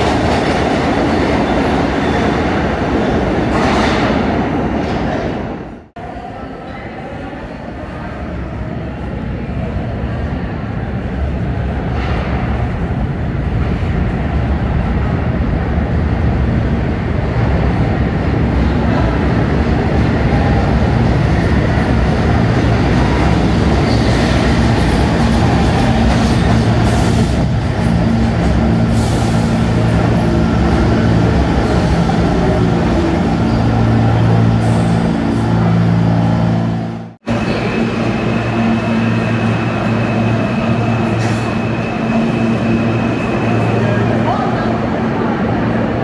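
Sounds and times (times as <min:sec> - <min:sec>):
subway train wheel and rail noise: 0:00.0 - 0:46.0.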